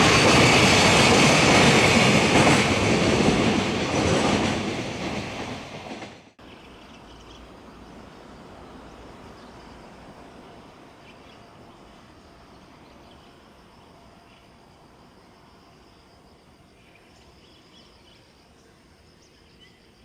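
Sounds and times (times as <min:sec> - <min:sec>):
freight train rumble: 0:00.0 - 0:19.3.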